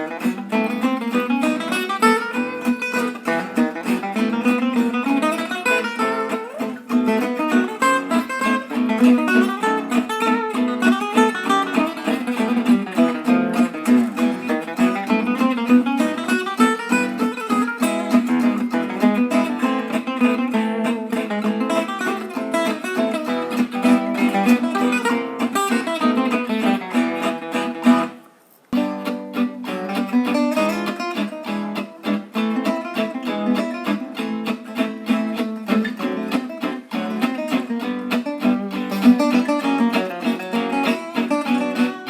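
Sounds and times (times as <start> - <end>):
fingerpicked acoustic guitar: 0.0 - 42.0.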